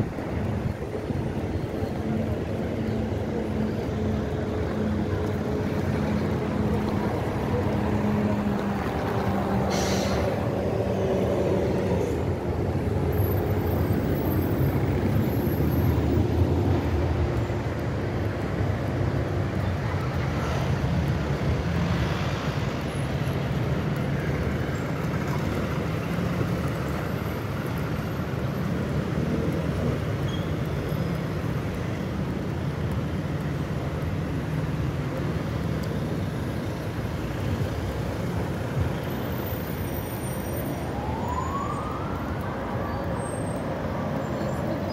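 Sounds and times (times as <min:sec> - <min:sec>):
cars and vans driving past: 0:00.0 - 0:44.9.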